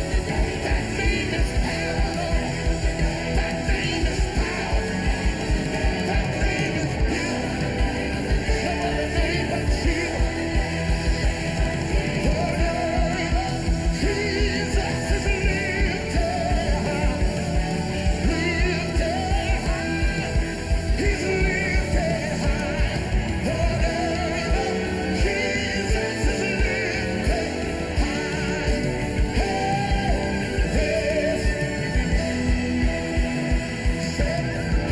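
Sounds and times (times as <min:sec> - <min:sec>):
live band music: 0:00.0 - 0:34.9
person singing: 0:00.0 - 0:34.9
recorder trilled melody: 0:00.0 - 0:34.9.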